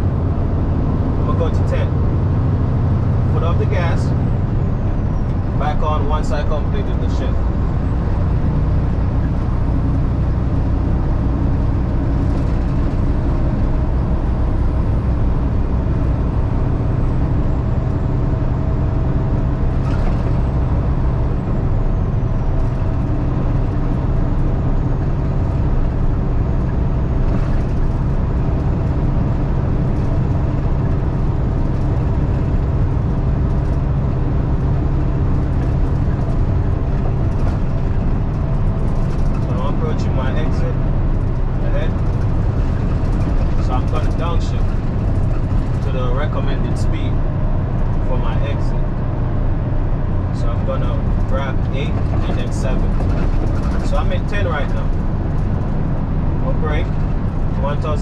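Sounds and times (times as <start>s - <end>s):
truck engine drone in cab: 0.0s - 58.0s.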